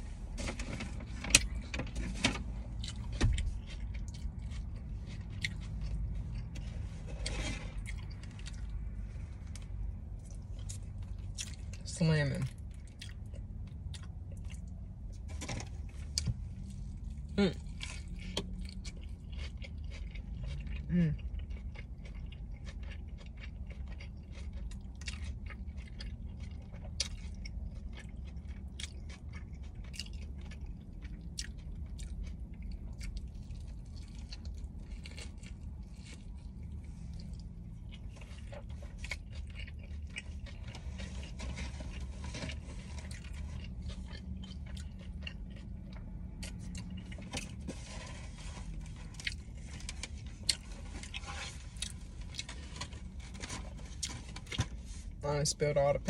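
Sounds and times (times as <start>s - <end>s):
person chewing crunchy food: 0.0s - 55.2s
low steady hum: 0.0s - 56.0s.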